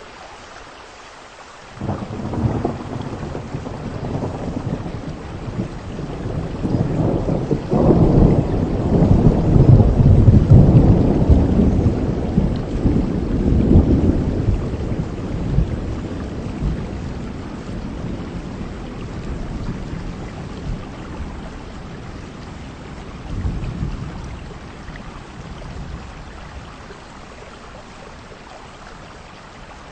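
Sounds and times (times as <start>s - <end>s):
heavy rain: 0.0s - 29.9s
rolling thunder rumble: 1.8s - 28.2s.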